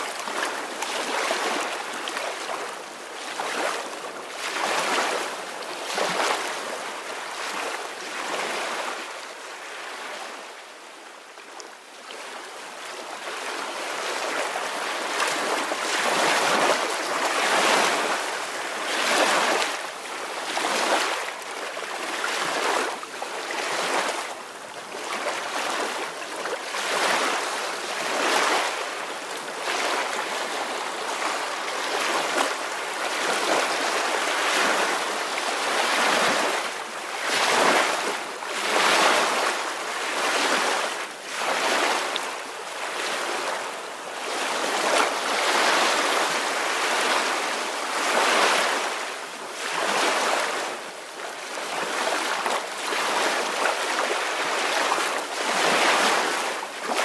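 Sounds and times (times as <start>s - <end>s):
small waves washing on shore: 0.0s - 57.0s.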